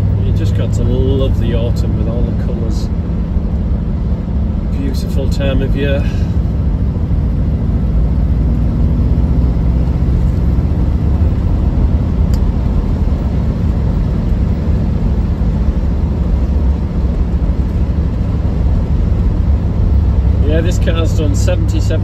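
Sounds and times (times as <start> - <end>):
car engine running inside cabin: 0.0 - 22.0
road noise: 0.0 - 22.0.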